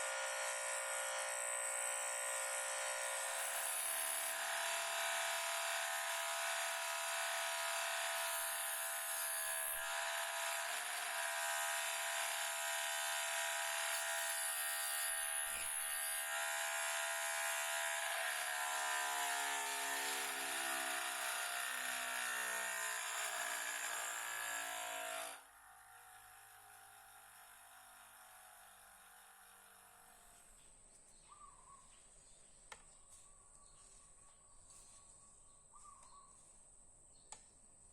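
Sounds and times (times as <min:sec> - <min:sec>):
power tool motor whining: 0:00.0 - 0:30.5.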